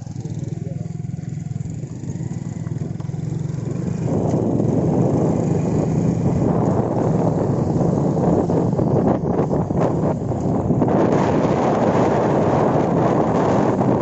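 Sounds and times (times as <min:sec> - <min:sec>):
motorcycle engine running: 0:00.0 - 0:14.0
wind rushing over microphone: 0:01.0 - 0:14.0.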